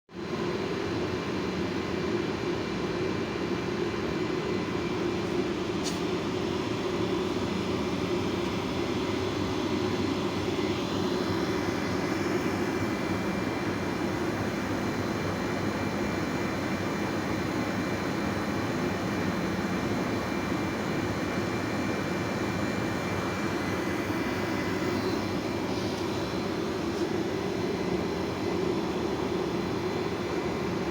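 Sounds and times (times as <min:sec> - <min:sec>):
air conditioner drone: 0:00.1 - 0:30.9
faint high whine: 0:04.1 - 0:30.9.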